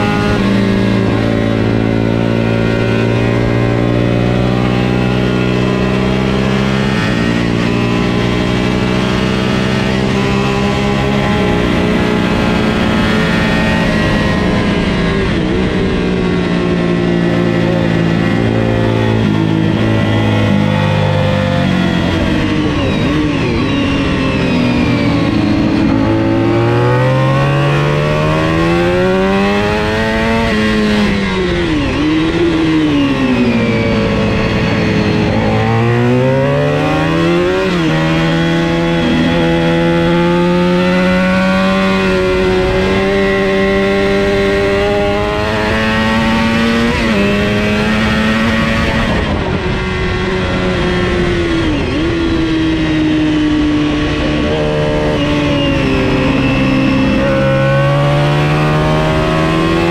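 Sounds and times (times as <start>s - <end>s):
motorcycle engine revving hard: 0.0s - 59.9s.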